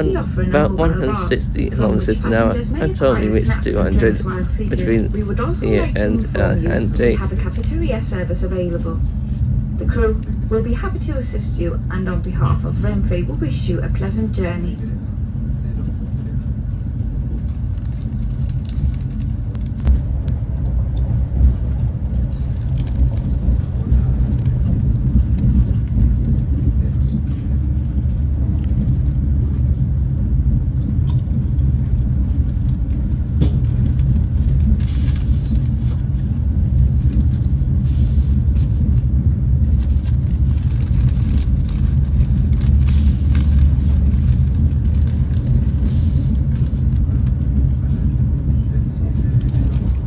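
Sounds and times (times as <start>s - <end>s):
train rumbling at speed: 0.0s - 50.0s.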